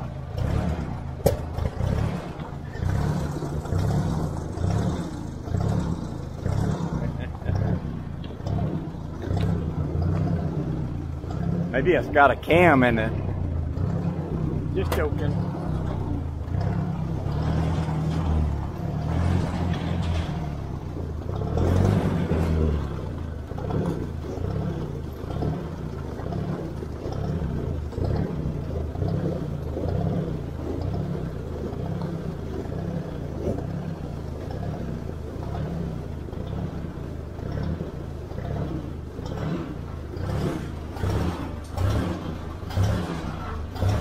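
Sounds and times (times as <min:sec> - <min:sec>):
tractor engine running rough: 0:00.0 - 0:44.0.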